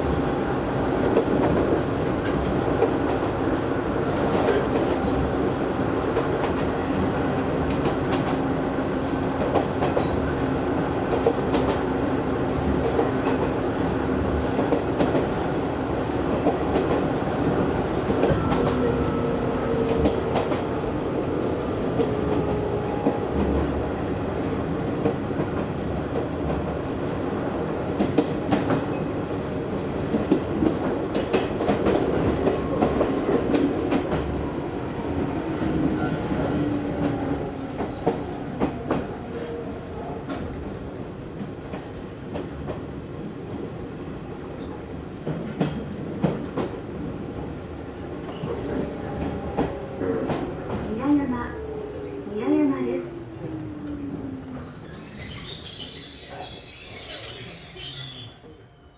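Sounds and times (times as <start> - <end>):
train wheels rumbling on track: 0.0 - 58.6.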